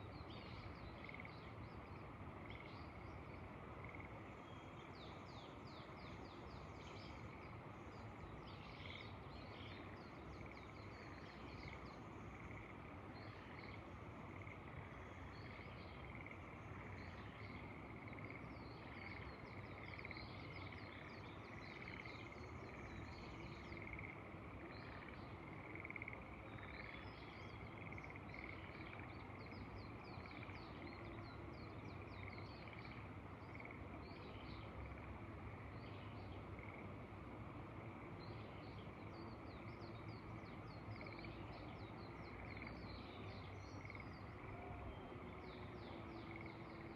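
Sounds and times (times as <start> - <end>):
wind: 0.0 - 46.9
frogs calling: 0.6 - 4.8, 8.7 - 46.9.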